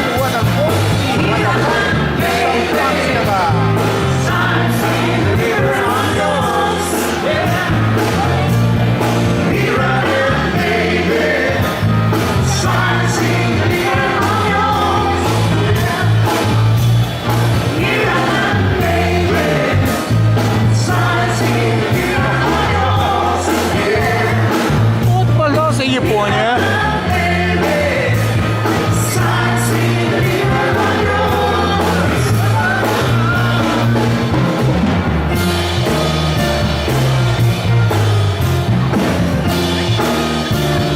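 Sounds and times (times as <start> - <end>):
prominent bass line: 0.0 - 40.9.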